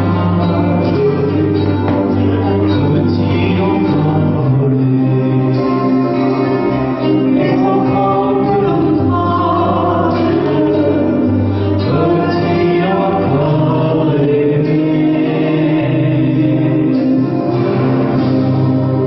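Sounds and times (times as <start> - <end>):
held bass notes: 0.0 - 19.0
instrumental accompaniment: 0.0 - 19.0
voices singing: 0.0 - 19.0.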